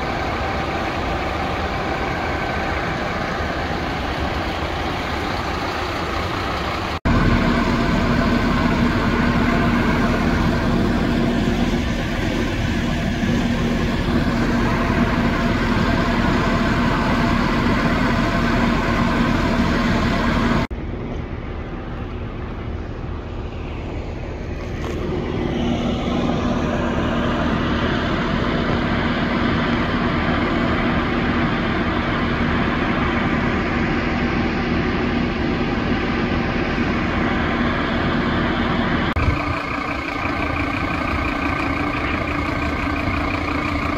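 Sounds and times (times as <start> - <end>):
diesel engines droning: 0.0 - 43.9.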